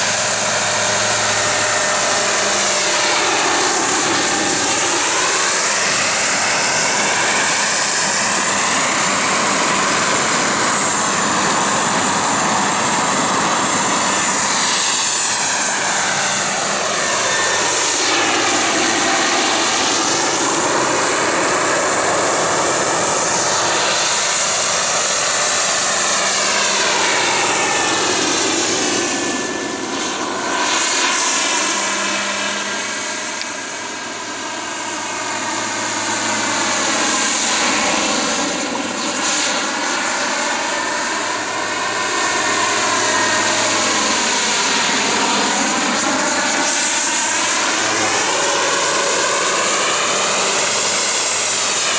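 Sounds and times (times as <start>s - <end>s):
helicopter engine and rotor whine: 0.0s - 51.9s.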